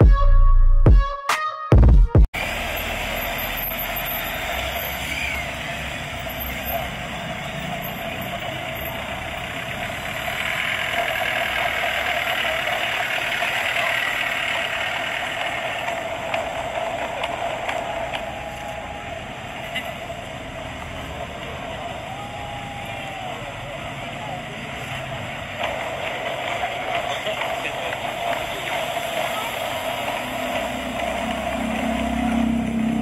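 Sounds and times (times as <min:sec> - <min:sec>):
car engine passing close: 0:02.4 - 0:33.0
motorcycles driving past: 0:02.4 - 0:33.0.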